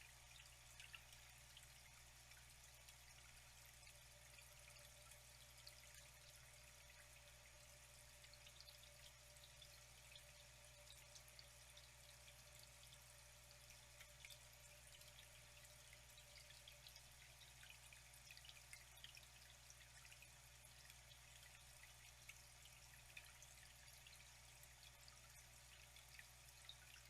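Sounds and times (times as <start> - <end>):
water trickling and dripping: 0.0 - 27.0.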